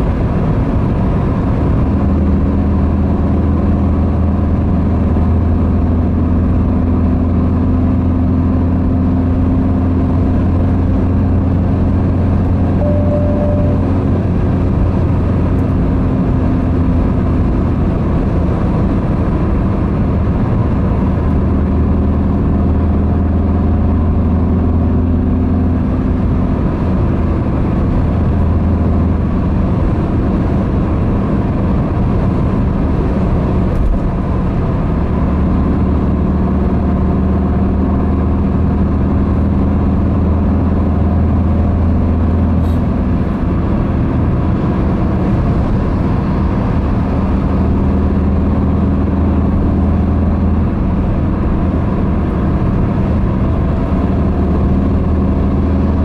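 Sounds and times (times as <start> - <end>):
car engine drone: 0.0 - 56.0
road rush: 0.0 - 56.0.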